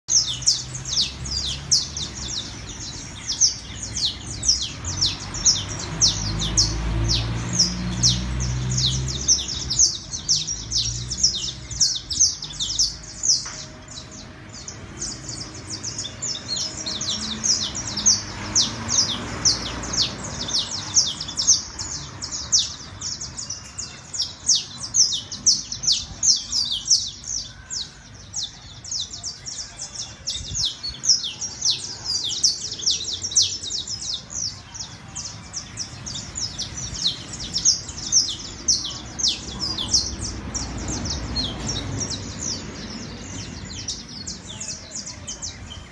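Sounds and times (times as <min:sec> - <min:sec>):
finch singing high chirps: 0:00.1 - 0:45.9.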